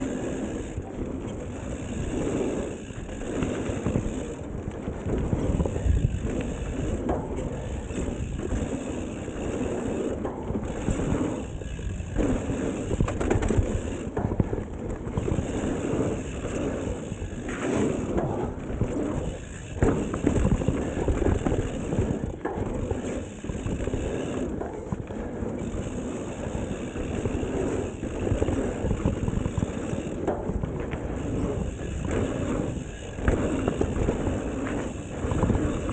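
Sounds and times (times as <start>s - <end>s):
bike rattling over bumps: 0.0s - 35.9s
bike tyres on dirt trail: 0.0s - 35.9s.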